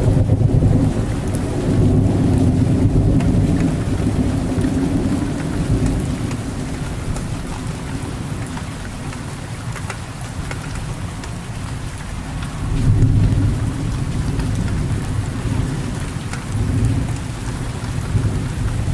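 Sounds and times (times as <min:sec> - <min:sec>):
rolling thunder rumble: 0:00.0 - 0:09.4, 0:10.9 - 0:18.9
steady rain falling: 0:00.0 - 0:18.9.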